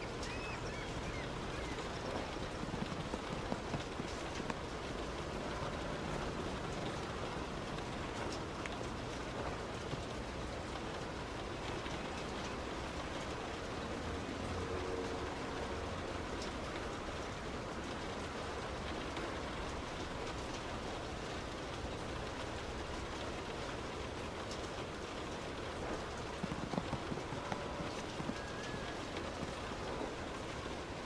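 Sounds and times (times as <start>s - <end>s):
heavy rain on a moving car: 0.0s - 31.0s.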